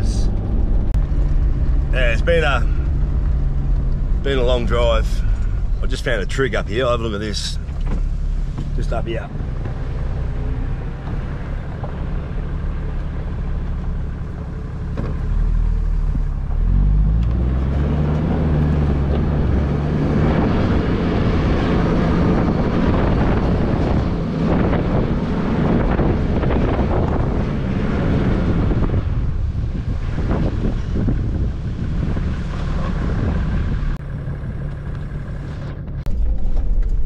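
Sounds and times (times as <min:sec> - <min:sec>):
truck engine accelerating: 0:00.0 - 0:37.0.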